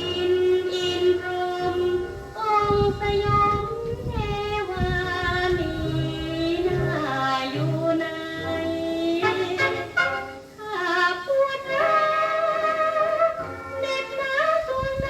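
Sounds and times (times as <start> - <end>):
woman singing with band: 0.0 - 15.0.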